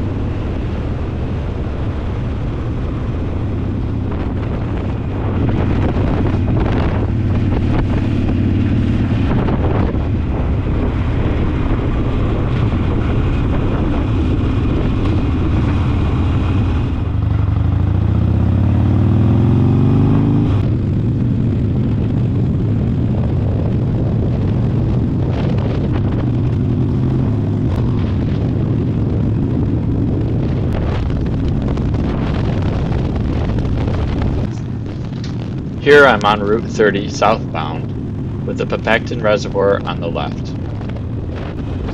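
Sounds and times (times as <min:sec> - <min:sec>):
motorcycle engine at road speed: 0:00.0 - 0:41.9
wind noise on microphone: 0:00.0 - 0:41.9.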